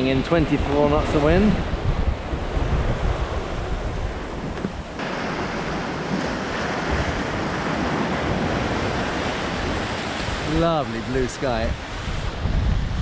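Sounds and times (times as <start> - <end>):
rough sea breaking: 0.0 - 13.0
wind gusting across microphone: 0.0 - 13.0.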